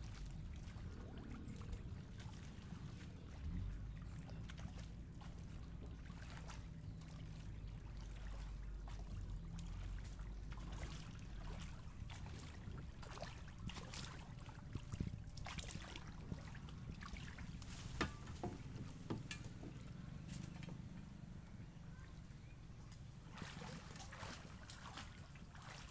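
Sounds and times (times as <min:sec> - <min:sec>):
paddle splashing in water: 0:00.0 - 0:21.6, 0:22.4 - 0:25.9.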